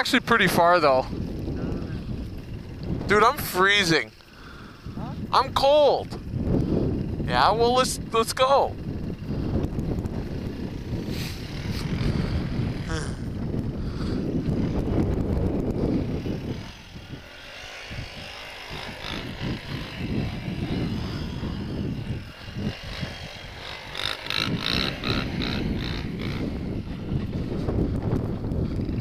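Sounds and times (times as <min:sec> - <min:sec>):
off-road engines running: 0:00.0 - 0:29.0
sharp rattling ticks: 0:00.0 - 0:29.0
wind rumble on microphone: 0:00.0 - 0:29.0.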